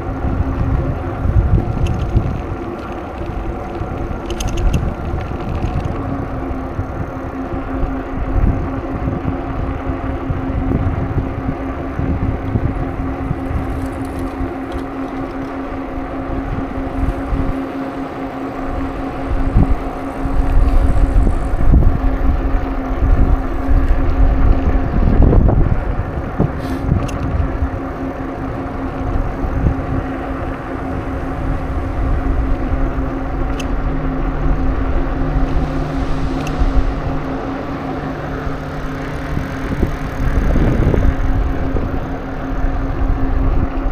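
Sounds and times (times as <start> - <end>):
steady hum: 0.0 - 43.9
wind buffeting microphone: 0.0 - 43.9.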